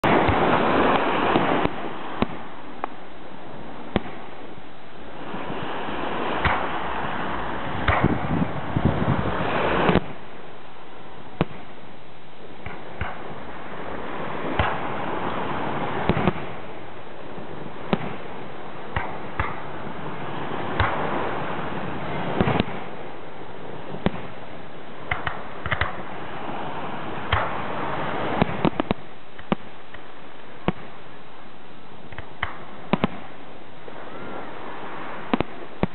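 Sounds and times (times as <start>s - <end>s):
fireworks booming: 0.0s - 3.0s, 3.6s - 4.6s, 5.2s - 10.4s, 11.3s - 11.8s, 12.4s - 31.2s, 32.0s - 35.9s.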